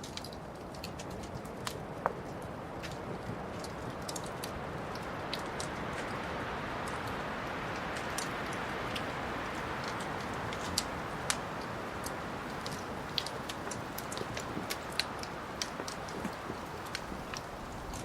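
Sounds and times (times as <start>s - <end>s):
wood fire crackling: 0.0s - 18.0s
hiss of burning logs: 0.2s - 18.0s.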